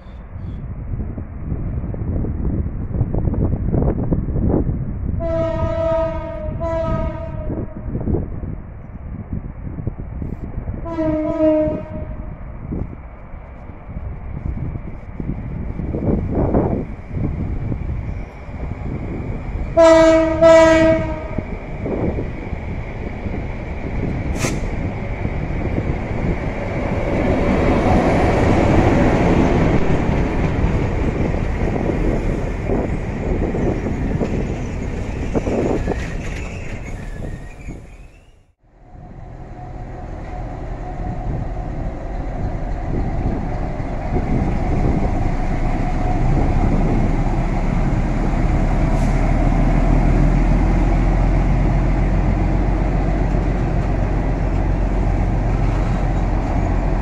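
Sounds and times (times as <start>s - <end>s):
diesel locomotive engine rumbling: 0.0s - 57.0s
train rolling past: 0.0s - 57.0s.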